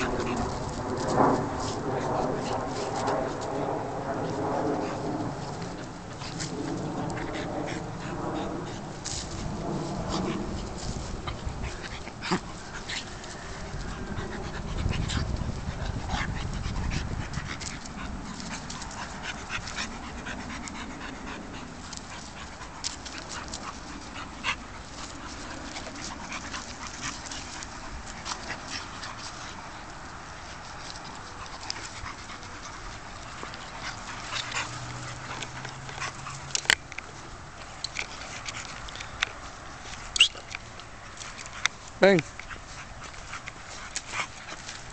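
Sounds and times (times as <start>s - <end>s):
dogs play-fighting: 0.0s - 44.9s.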